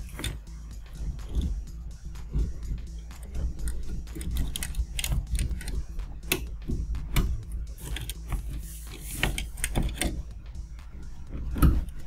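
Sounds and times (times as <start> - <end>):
wires rattling: 0.0 - 12.0.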